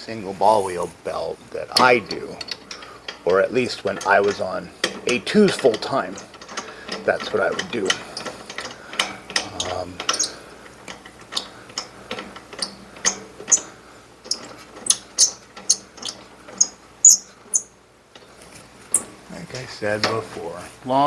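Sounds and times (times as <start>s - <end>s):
hand ratchet clicking: 0.8s - 19.2s.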